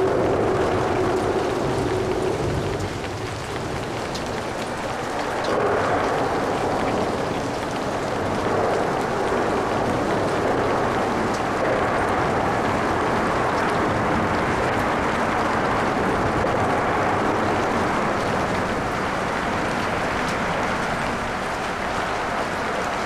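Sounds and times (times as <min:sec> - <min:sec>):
faint raindrop ticks: 0:00.0 - 0:23.0
light rain: 0:00.0 - 0:23.0.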